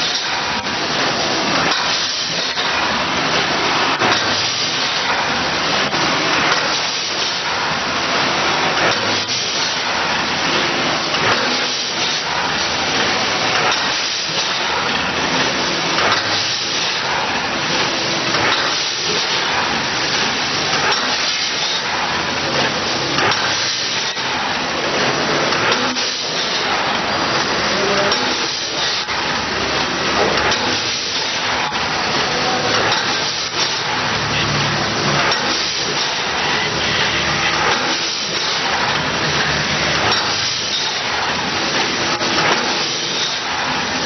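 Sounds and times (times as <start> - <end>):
packaging machine hissing: 0.0 - 44.0.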